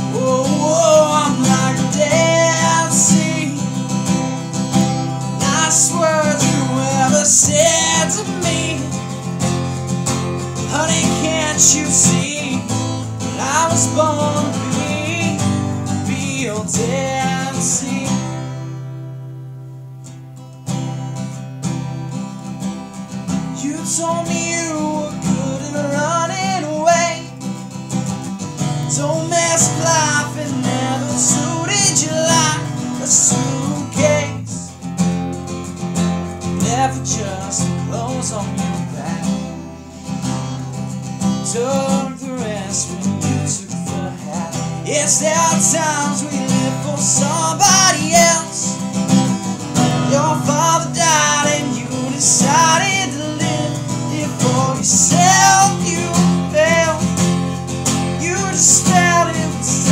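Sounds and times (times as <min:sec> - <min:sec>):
man singing: 0:00.0 - 0:18.7, 0:23.4 - 0:27.7, 0:28.6 - 0:34.9, 0:36.4 - 0:59.9
acoustic guitar strumming: 0:00.0 - 0:59.9.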